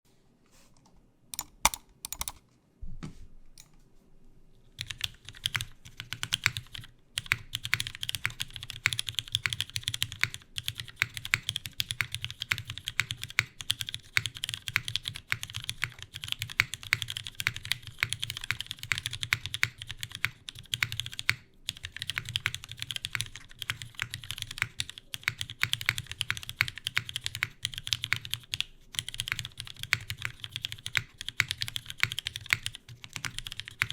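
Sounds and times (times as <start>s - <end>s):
faint fan hum: 0.1s - 33.9s
mechanical keyboard typing: 1.4s - 2.4s, 4.8s - 33.9s.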